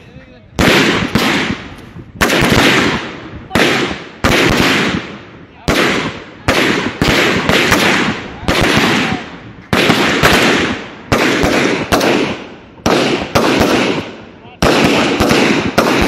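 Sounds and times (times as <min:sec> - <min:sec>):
rifle shots echoing: 0:00.5 - 0:16.0.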